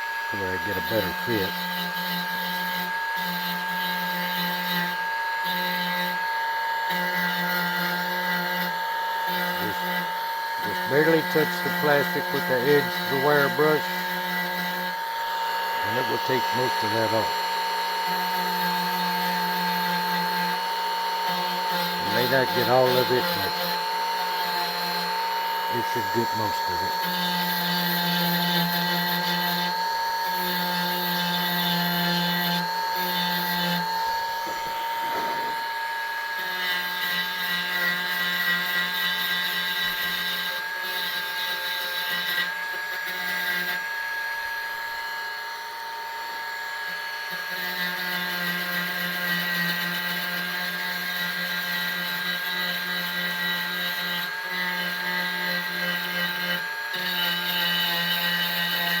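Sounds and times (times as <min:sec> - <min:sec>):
rotary tool whine: 0:00.0 - 0:59.0.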